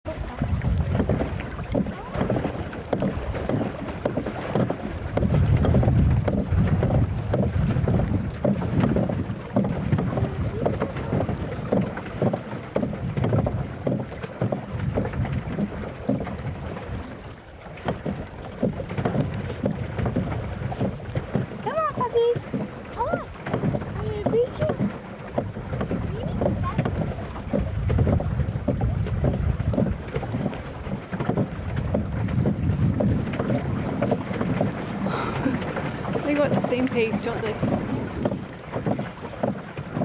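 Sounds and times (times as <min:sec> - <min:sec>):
water lapping and splashing: 0:00.0 - 0:40.0
wind buffeting microphone: 0:00.0 - 0:40.0.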